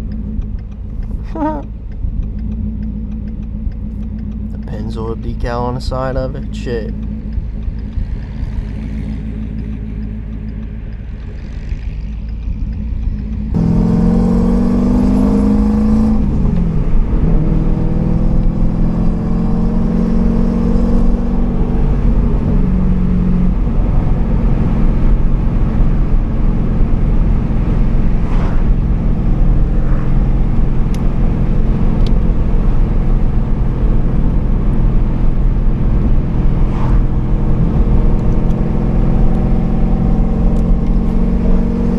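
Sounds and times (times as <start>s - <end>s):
car engine under way: 0.0s - 41.9s.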